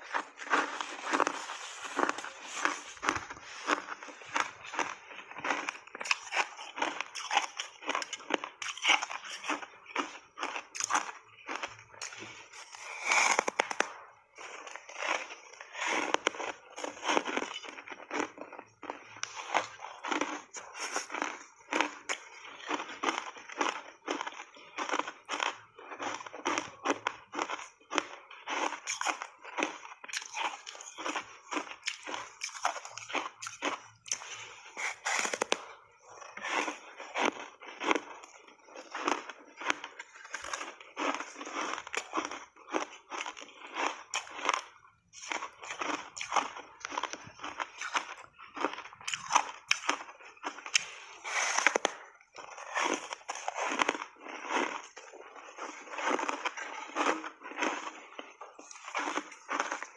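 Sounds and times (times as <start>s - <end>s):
ice crunched and chewed: 0.0s - 59.9s.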